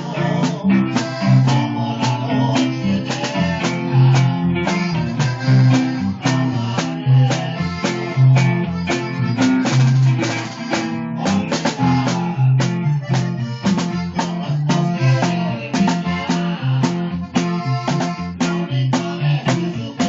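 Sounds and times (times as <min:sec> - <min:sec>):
bass notes: 0:00.0 - 0:20.0
drum kit beat: 0:00.0 - 0:20.0
guitar: 0:00.0 - 0:20.0.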